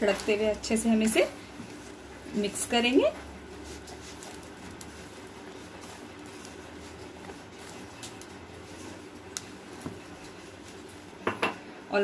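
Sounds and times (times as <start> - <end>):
hands rubbing dough: 0.0 - 12.0.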